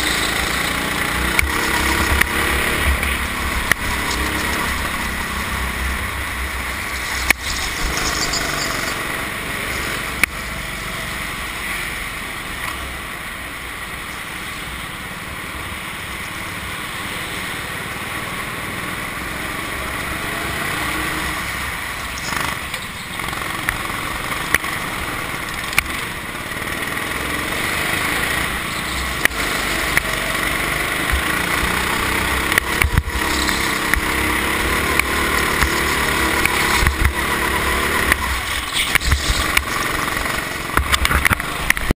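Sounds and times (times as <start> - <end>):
go-kart engine running: 0.0 - 41.9.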